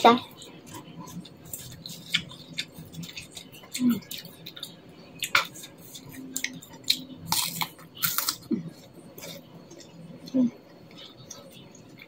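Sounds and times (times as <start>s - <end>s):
crunchy biting and chewing: 0.4s - 12.0s.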